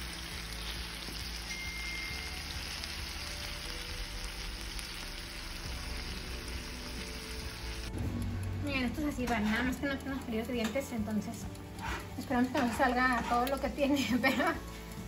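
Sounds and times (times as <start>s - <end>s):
steak sizzling in a frying pan: 0.0s - 15.0s.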